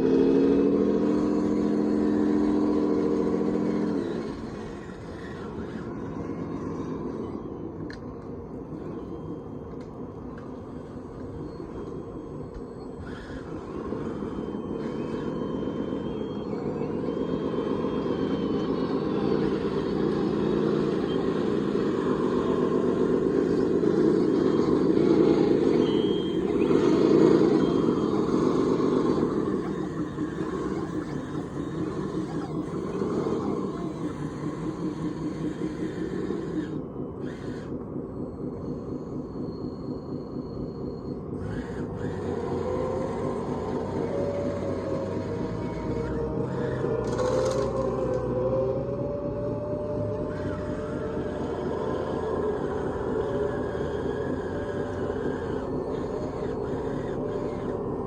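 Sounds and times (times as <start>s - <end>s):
toy machine mechanical hum: 0.0s - 58.0s.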